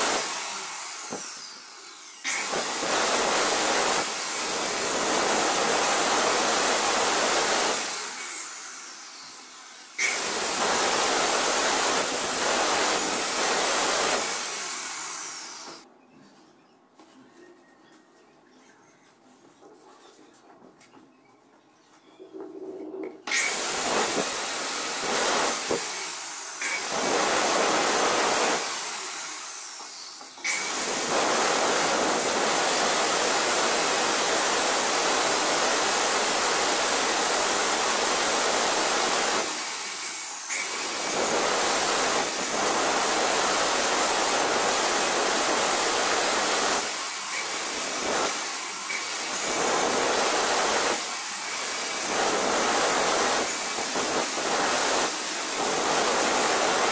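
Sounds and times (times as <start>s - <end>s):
angle grinder cutting stone: 0.0s - 15.8s, 23.3s - 56.9s.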